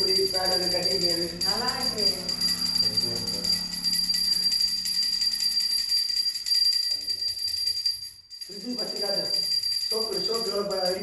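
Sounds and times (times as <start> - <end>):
hand bell ringing rapidly: 0.0 - 11.0.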